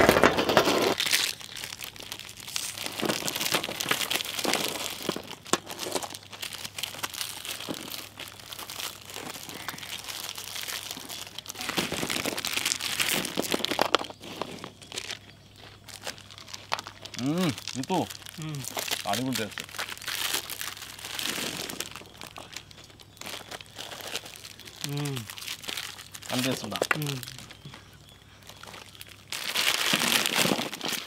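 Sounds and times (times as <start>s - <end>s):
biscuits dropping onto a heap: 0.0s - 15.2s, 16.0s - 27.8s, 28.5s - 31.0s
plastic wrappers crinkling: 0.0s - 31.0s.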